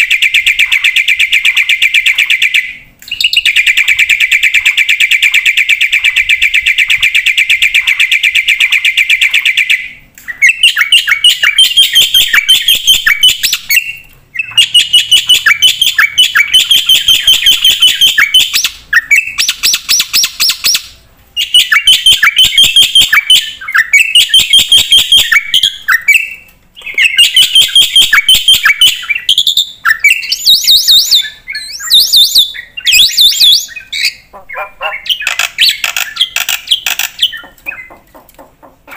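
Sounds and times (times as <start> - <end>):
starling singing: 0.0 - 38.2.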